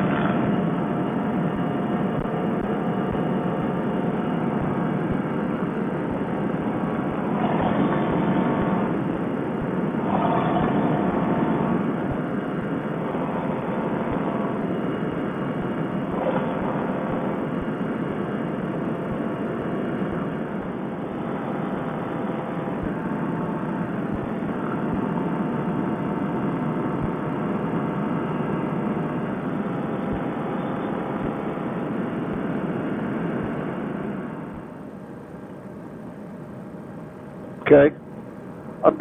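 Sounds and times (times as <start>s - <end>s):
paramotor engine and propeller: 0.0s - 39.0s.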